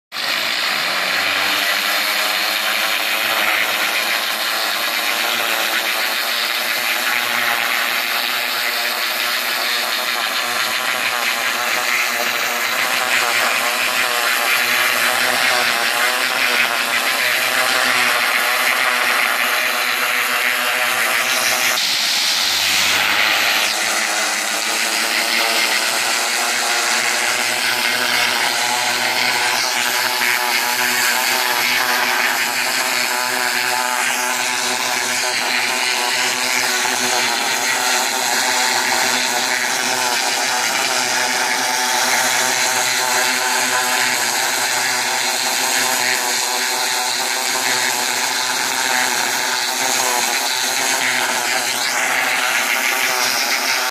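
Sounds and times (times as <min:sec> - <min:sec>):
pressure washer drone: 0:00.0 - 0:53.9.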